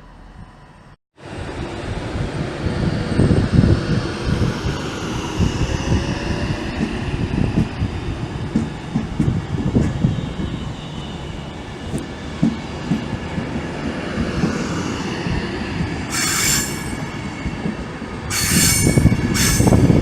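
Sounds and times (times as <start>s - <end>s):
train wheels rumbling and knocking: 1.4s - 20.0s.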